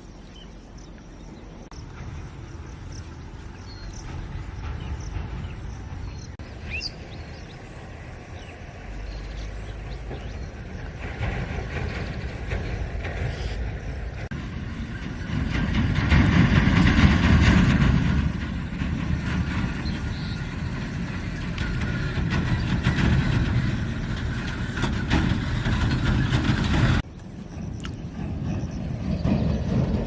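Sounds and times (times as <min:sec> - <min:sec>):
loud low rumbling noise: 0:00.0 - 0:30.0.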